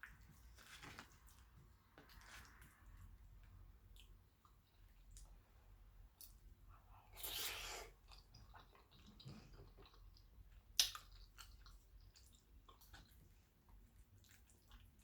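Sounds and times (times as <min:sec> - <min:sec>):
chewing soft food: 0:02.0 - 0:15.0.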